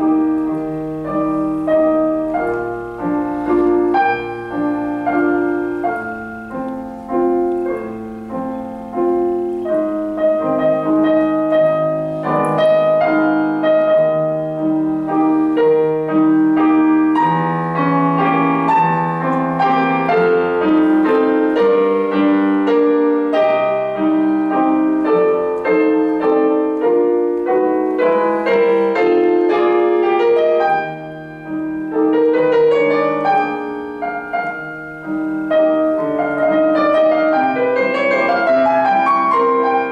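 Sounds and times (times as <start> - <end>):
piano piece: 0.0 - 39.9.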